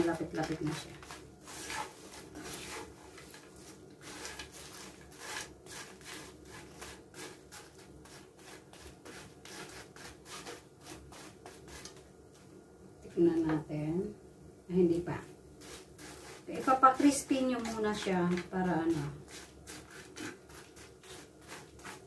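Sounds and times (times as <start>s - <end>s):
spoon scraping fish in frying pan: 0.4s - 12.0s, 15.6s - 22.0s.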